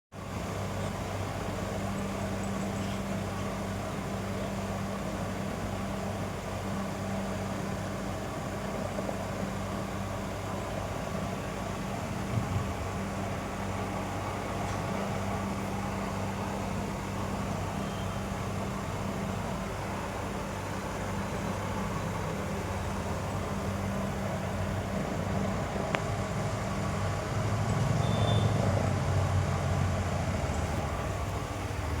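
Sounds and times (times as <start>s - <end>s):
low mechanical hum: 0.2s - 32.0s.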